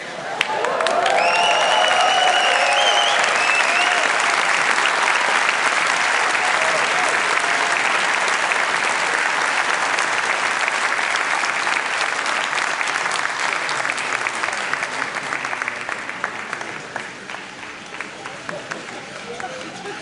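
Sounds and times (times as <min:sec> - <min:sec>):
audience applauding: 0:00.2 - 0:20.0.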